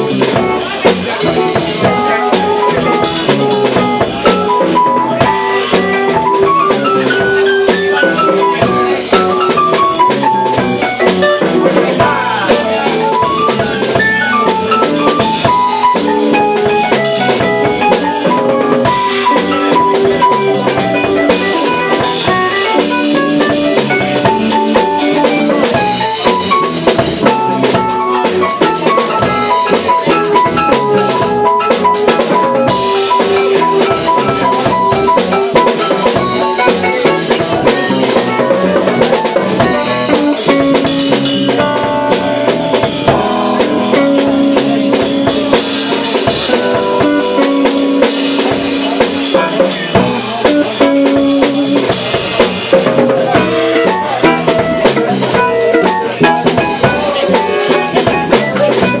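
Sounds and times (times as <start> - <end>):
live band playing instrumental: 0.0 - 59.0
steady drumming: 0.0 - 59.0.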